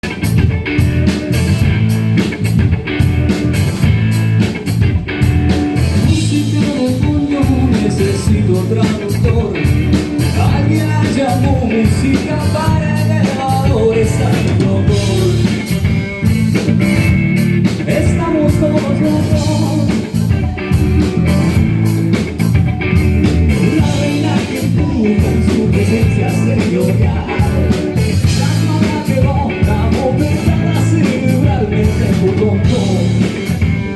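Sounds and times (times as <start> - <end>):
drum kit steady beat: 0.0 - 33.9
electric guitars: 0.0 - 33.9.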